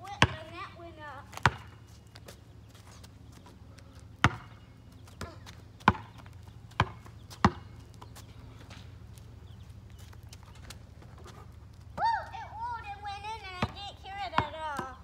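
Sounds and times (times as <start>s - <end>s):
basketball bouncing on asphalt: 0.0s - 12.1s, 13.2s - 15.0s.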